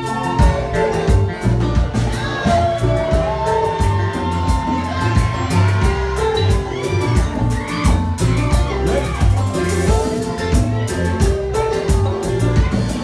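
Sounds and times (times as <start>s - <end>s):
acoustic and electric guitars: 0.0s - 13.0s
bass line: 0.0s - 13.0s
drum kit beat: 0.0s - 13.0s
live band playing upbeat groove: 0.0s - 13.0s.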